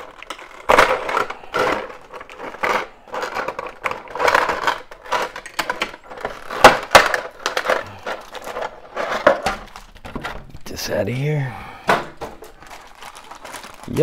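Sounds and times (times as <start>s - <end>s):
plastic packaging crackling: 0.0s - 14.0s.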